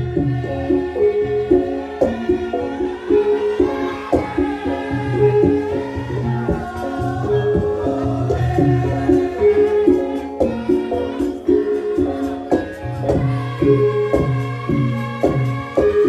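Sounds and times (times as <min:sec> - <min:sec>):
gamelan music: 0:00.0 - 0:16.0.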